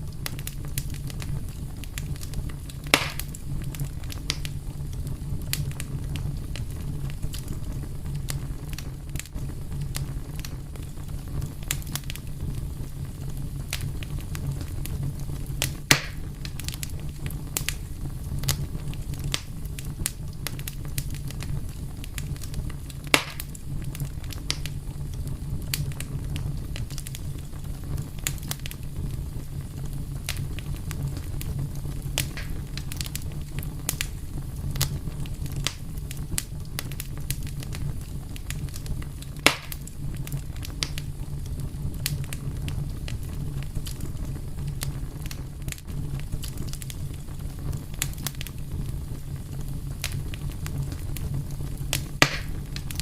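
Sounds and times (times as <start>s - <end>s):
loud fire pops: 0.0s - 53.0s
wood fire crackling: 0.0s - 53.0s.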